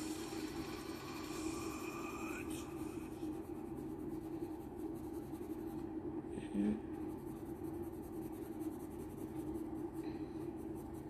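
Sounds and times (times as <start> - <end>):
steady low hum: 0.0 - 11.0
colored pencil scratching on paper: 0.2 - 5.9, 7.0 - 11.0.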